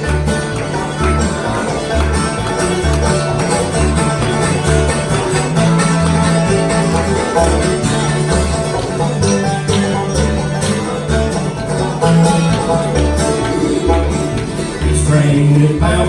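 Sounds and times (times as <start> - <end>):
bluegrass band playing: 0.0 - 16.0.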